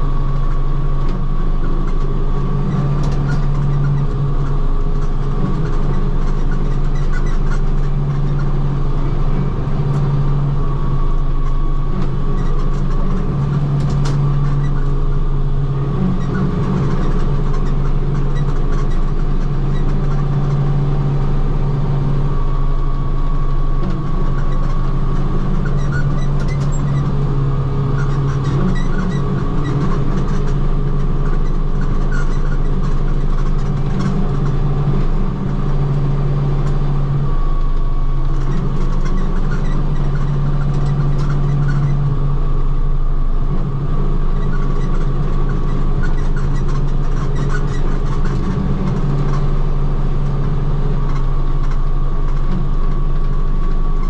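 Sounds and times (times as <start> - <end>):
rotary cutter whine: 0.0 - 54.0
tractor engine drone: 0.0 - 54.0.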